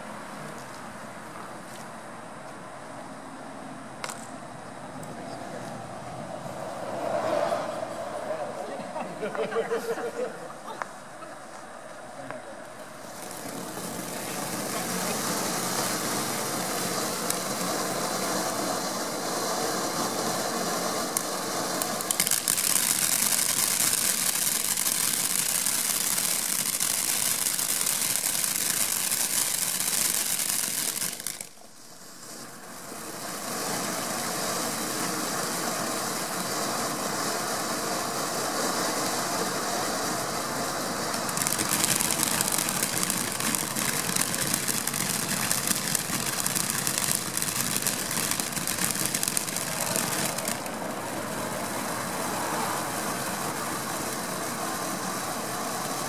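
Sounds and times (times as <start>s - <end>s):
fountain firework hissing: 6.0s - 56.0s.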